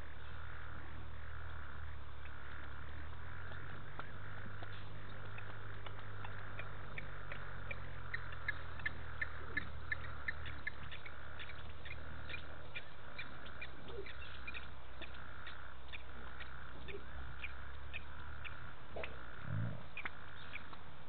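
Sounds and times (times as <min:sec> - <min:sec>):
frogs calling: 0:00.0 - 0:21.0
low hum: 0:00.0 - 0:21.0.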